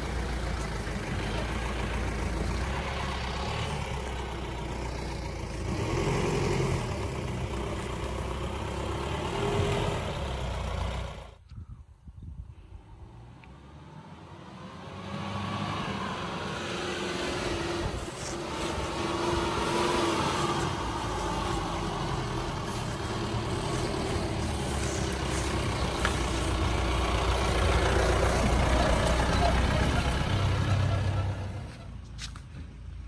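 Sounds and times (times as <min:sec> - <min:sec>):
diesel truck engine driving: 0:00.0 - 0:11.4, 0:12.7 - 0:33.0.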